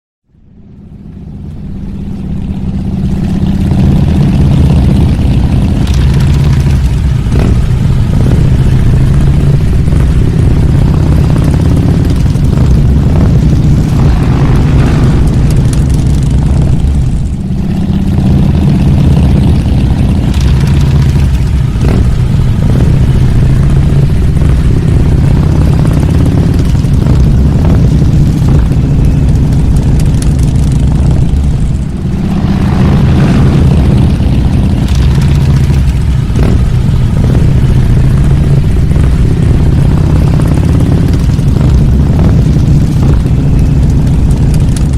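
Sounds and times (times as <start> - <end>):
motorcycle engines running: 0.3 - 44.9.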